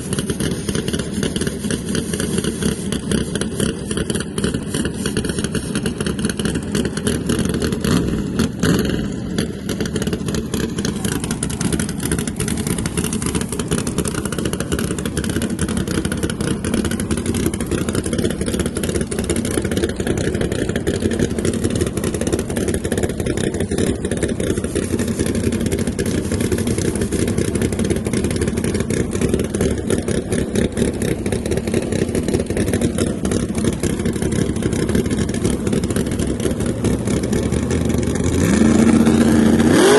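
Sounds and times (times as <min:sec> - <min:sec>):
loud rough engine exhaust: 0:00.0 - 0:39.9.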